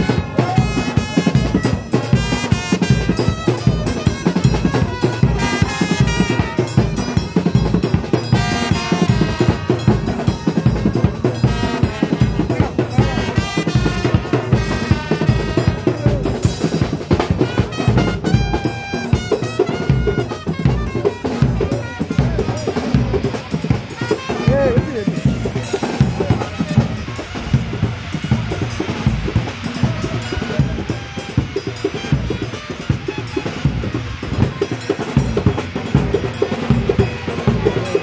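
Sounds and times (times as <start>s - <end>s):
snare and bass drums: 0.0s - 38.0s
trumpet melody: 0.0s - 38.0s.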